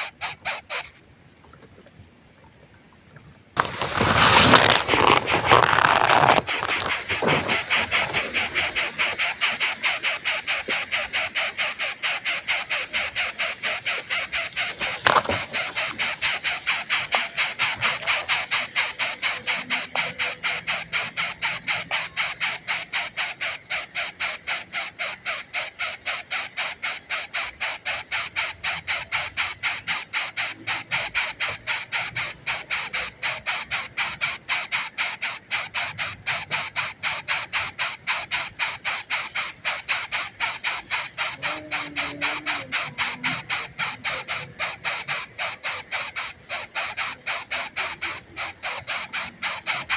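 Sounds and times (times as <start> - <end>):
baby bird begging calls: 0.0 - 0.9, 3.6 - 49.9.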